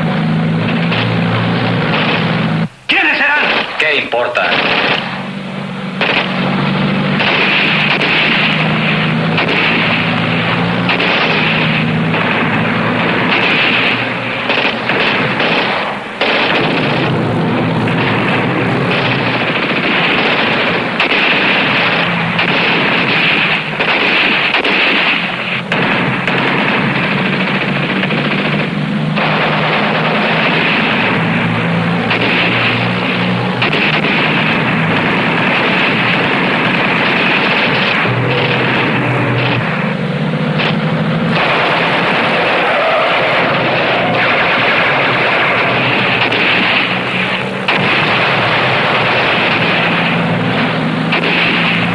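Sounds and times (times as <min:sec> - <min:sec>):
jeep engines running: 0:00.0 - 0:51.9
machine-gun fire: 0:00.0 - 0:51.9.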